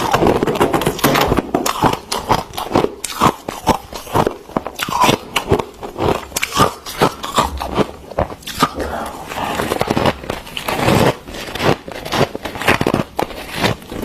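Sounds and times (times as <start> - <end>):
frost being chewed crunching: 0.0 - 14.0.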